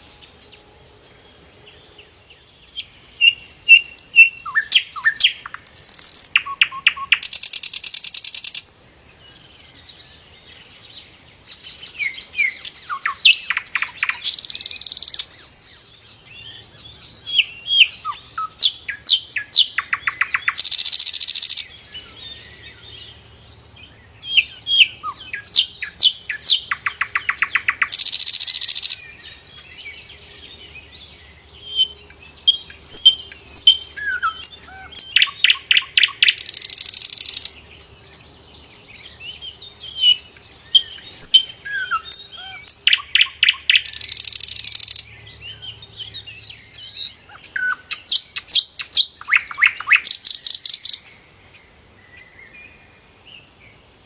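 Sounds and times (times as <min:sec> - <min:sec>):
bird chirping and trilling: 0:01.7 - 0:09.3, 0:11.5 - 0:51.1.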